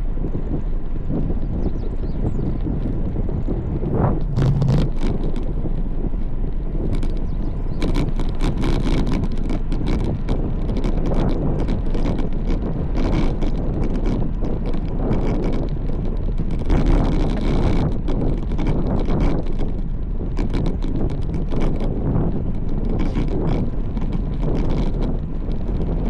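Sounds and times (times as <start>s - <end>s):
bike clicks and rattles: 0.0s - 26.0s
wind buffeting microphone: 0.0s - 26.0s.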